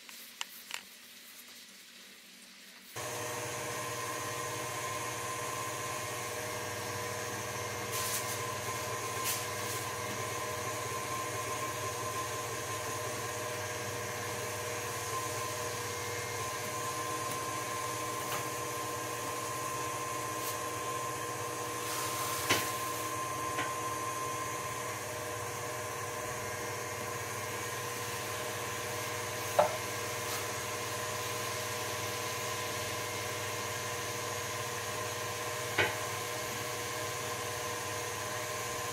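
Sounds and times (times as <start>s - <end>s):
stand mixer motor running: 3.0s - 38.9s.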